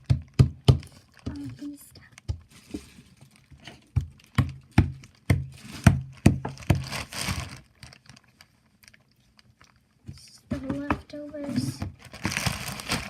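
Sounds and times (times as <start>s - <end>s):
slime squishing: 0.0s - 13.0s.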